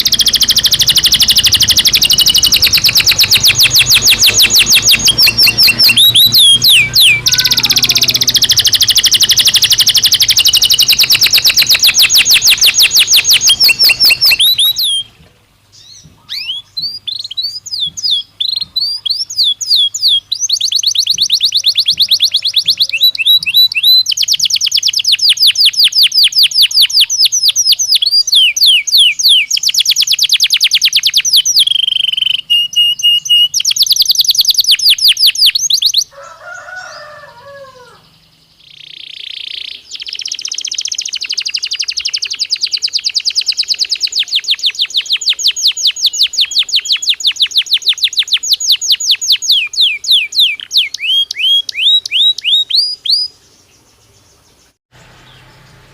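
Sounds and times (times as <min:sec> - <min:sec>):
canary trilling: 0:00.0 - 0:15.2, 0:15.8 - 0:53.4.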